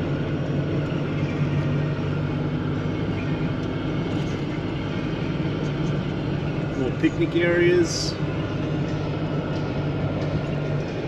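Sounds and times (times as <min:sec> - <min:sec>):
car engine running: 0:00.0 - 0:11.0
tyre and road noise: 0:00.0 - 0:11.0.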